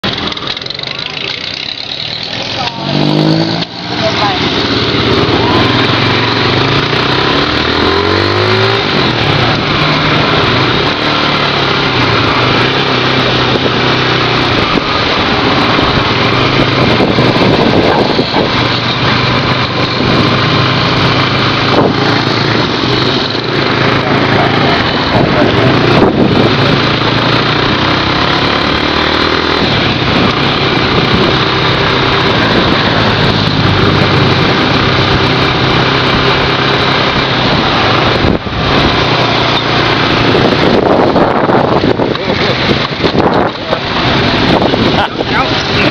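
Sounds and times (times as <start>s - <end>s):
loud road noise: 0.0s - 45.9s
motorcycle engine running: 0.0s - 45.9s.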